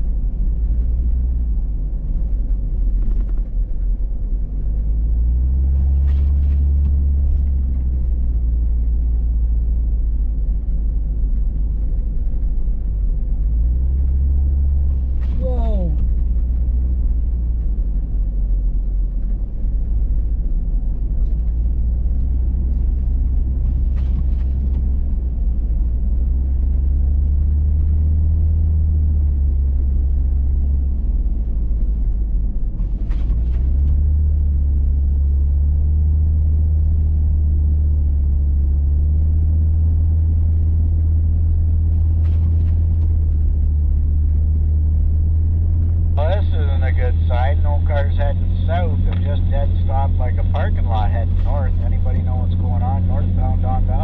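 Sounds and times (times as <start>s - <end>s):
engine and road rumble: 0.0s - 54.0s.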